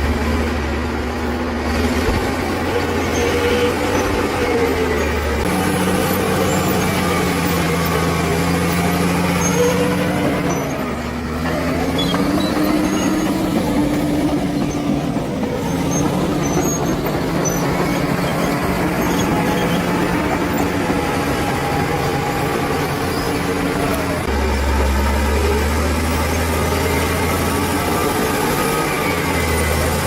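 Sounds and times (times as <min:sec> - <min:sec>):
bulldozer diesel engine under load: 0:00.0 - 0:30.0.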